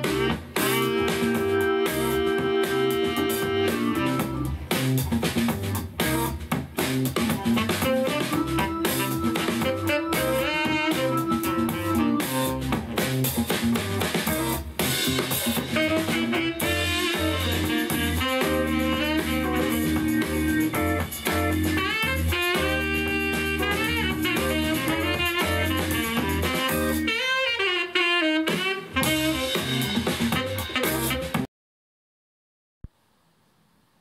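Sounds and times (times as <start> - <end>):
jazz music through a speaker: 0.0 - 31.5.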